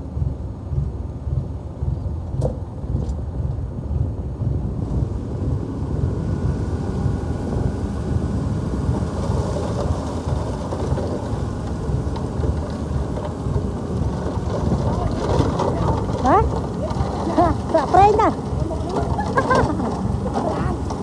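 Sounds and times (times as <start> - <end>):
heavy diesel machinery rumbling: 0.0 - 21.0.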